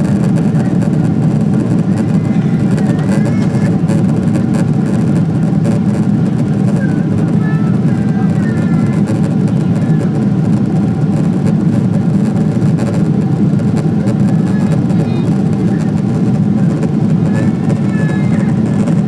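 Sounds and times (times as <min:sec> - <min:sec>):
air rushing over fuselage: 0:00.0 - 0:19.0
airplane cabin engine drone: 0:00.0 - 0:19.0.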